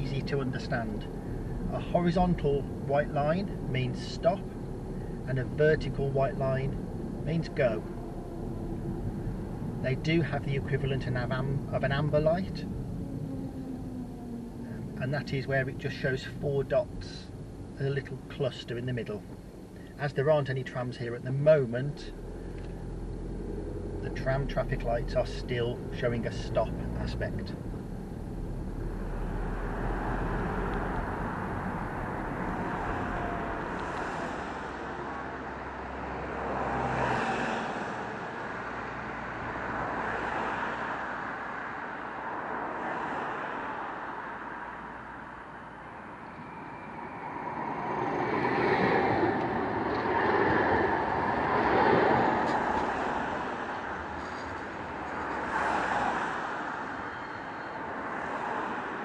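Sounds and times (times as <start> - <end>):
car engine and road rumble: 0.0 - 59.0
vehicles passing: 0.0 - 59.0.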